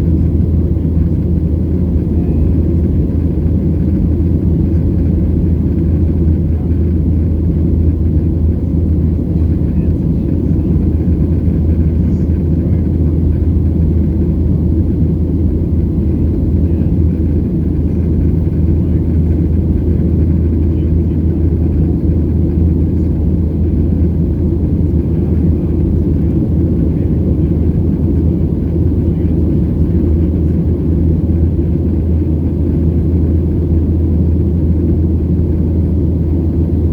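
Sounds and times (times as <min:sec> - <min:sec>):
jet engine rumble in cabin: 0:00.0 - 0:36.9.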